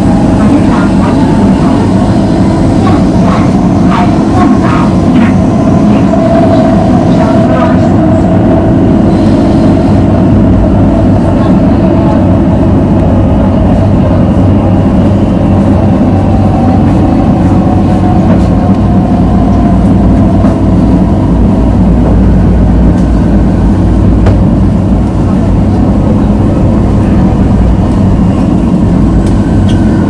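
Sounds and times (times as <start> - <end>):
train wheels on rail in tunnel: 0.0 - 30.0.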